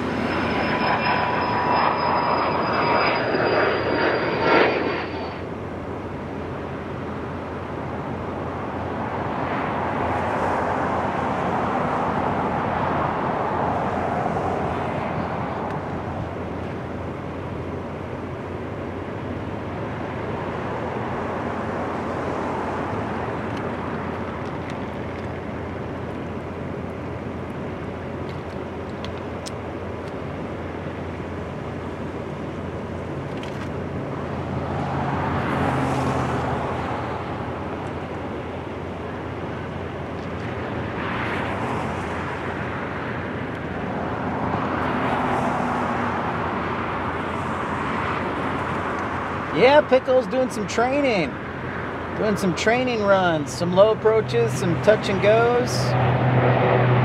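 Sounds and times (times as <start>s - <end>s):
highway traffic noise: 0.0s - 57.0s
vehicles passing: 0.0s - 57.0s.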